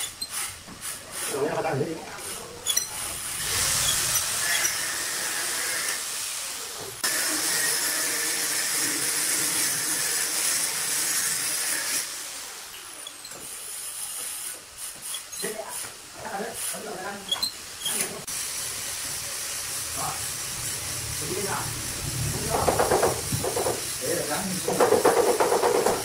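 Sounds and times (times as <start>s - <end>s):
caulking gun hissing: 2.2s - 26.0s.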